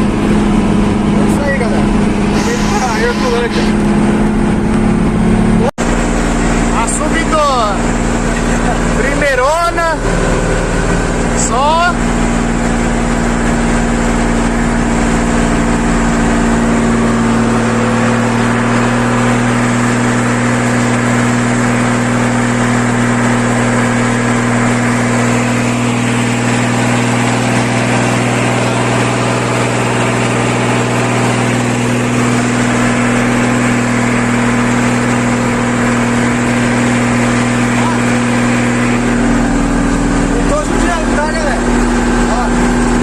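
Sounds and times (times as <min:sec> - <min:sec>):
diesel truck engine climbing: 0:00.0 - 0:43.0.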